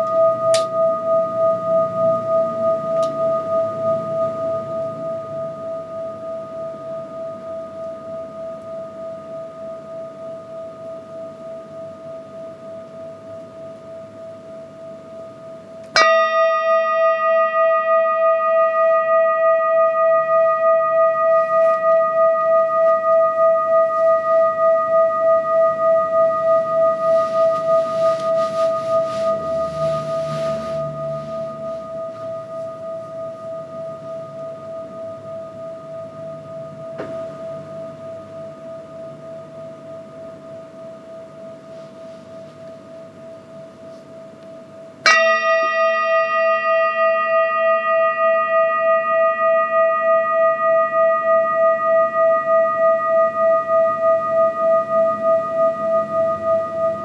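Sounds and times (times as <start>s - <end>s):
metal singing bowl ringing: 0.0s - 57.0s
singing bowl struck: 0.0s - 57.0s.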